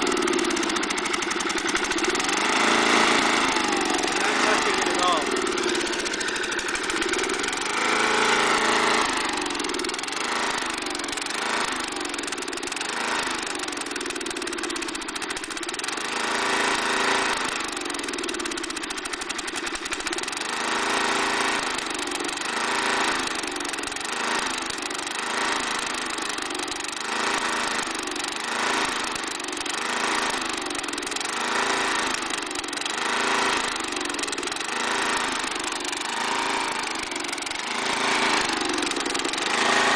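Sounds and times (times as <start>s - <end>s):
mower engine surging: 0.0s - 39.9s.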